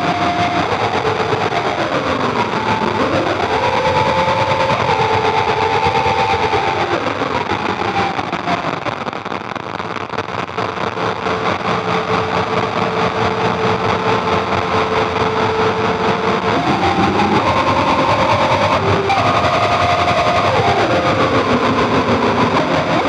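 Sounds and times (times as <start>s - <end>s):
electronic noise drone: 0.0s - 23.0s.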